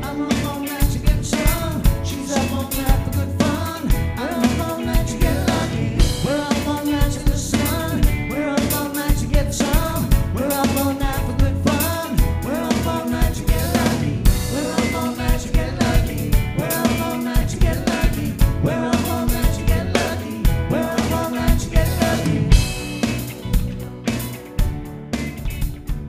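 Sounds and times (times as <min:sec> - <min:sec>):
person singing lead vocal: 0:00.0 - 0:23.2
band playing upbeat song: 0:00.0 - 0:26.0
drum kit beat: 0:00.0 - 0:26.0.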